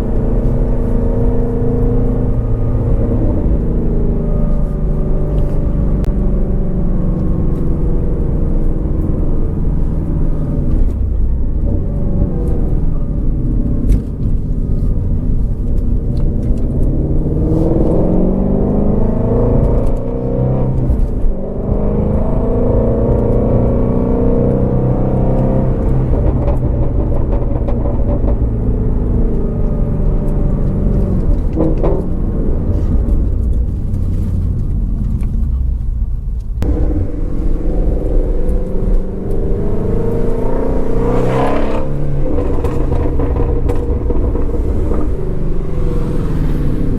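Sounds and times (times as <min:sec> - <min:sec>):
car engine accelerating: 0:00.0 - 0:46.9
sharp exhaust crackles: 0:00.0 - 0:46.9.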